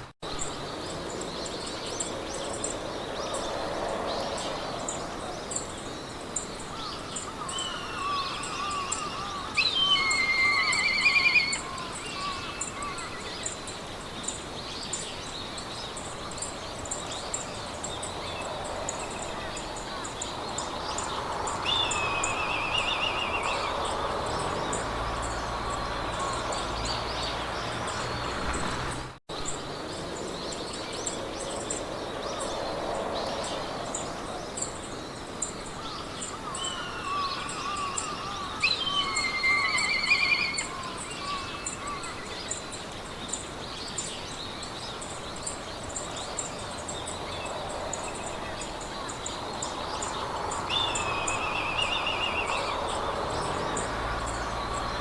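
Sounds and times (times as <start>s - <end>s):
songbirds singing trills: 0.0s - 55.0s
wind hissing through grass: 0.0s - 55.0s.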